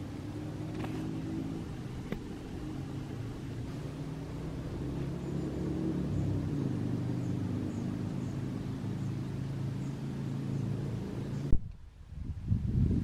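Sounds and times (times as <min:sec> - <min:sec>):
engine humming: 0:00.0 - 0:11.8.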